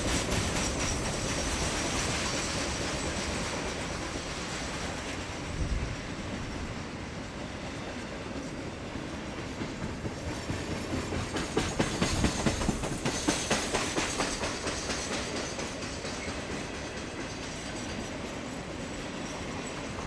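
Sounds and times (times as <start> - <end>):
wheels clacking over rail joints: 0.0 - 6.7, 7.9 - 20.0
train rumble: 0.0 - 20.0.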